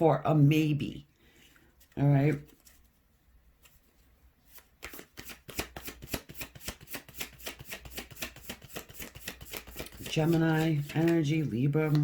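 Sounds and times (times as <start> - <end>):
cards being shuffled: 1.8 - 12.0.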